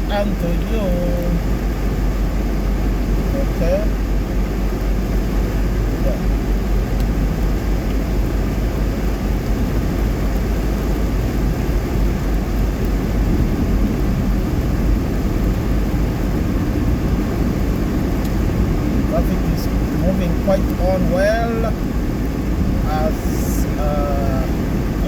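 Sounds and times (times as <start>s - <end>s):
tyres on wet road: 0.0s - 25.0s.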